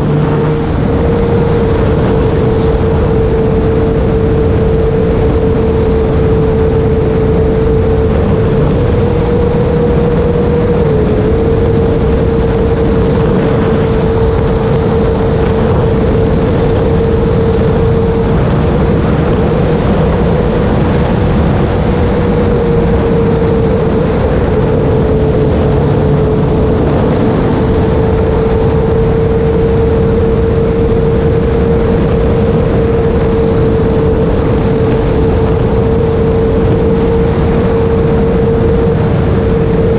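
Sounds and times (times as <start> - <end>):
rushing airflow noise: 0.0 - 39.9.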